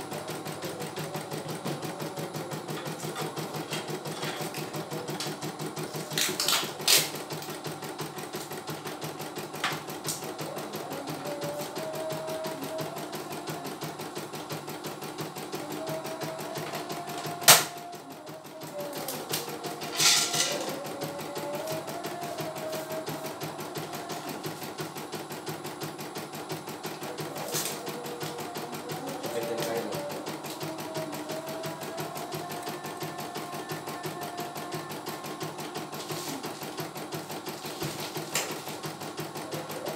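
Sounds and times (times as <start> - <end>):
embroidery machine needle running: 0.0 - 39.9.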